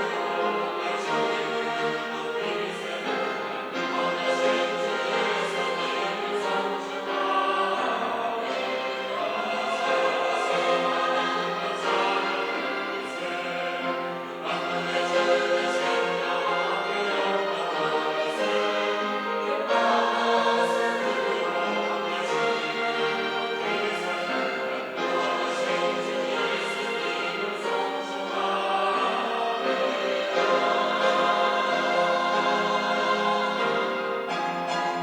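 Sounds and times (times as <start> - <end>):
choir accompaniment: 0.0 - 35.0
church choir singing: 0.0 - 35.0.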